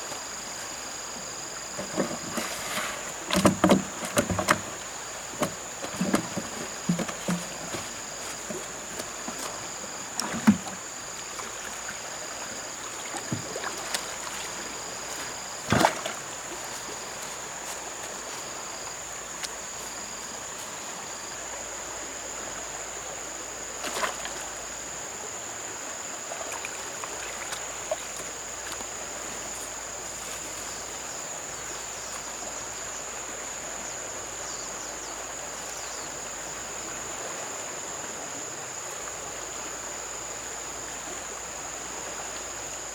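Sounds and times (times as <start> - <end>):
river water running and lapping: 0.0 - 42.9.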